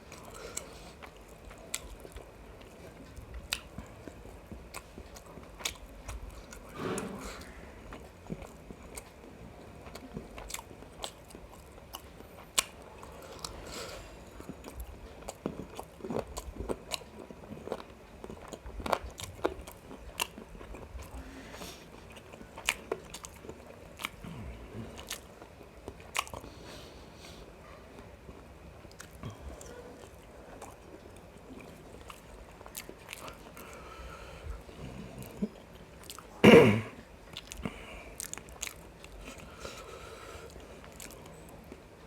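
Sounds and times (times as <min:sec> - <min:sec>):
wet chewing: 0:00.0 - 0:36.4, 0:37.3 - 0:42.0.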